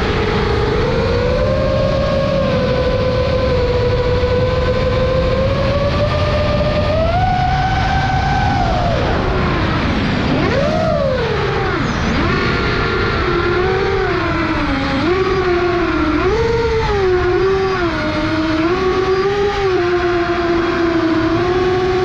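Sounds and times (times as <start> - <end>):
quadcopter motors whining: 0.0 - 22.0
wind and prop-wash rush: 0.0 - 22.0.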